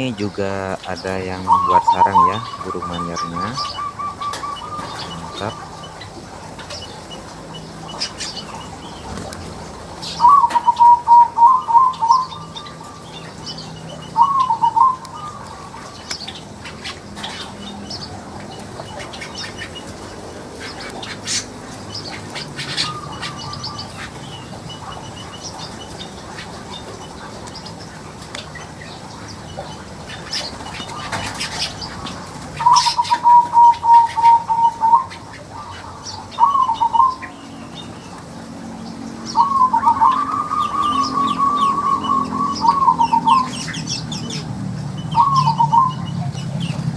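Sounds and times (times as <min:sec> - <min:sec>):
bird rapid pulsed notes: 0:00.0 - 0:46.9
birds chirping: 0:00.0 - 0:46.9.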